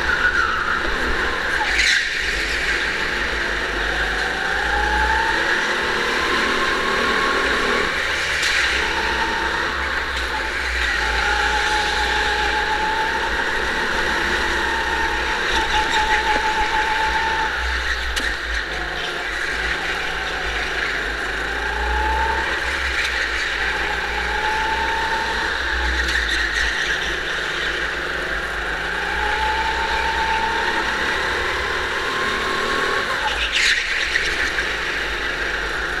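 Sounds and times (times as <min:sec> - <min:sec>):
go-kart drive and tyre noise: 0:00.0 - 0:36.0
go-kart engine whine: 0:00.0 - 0:36.0.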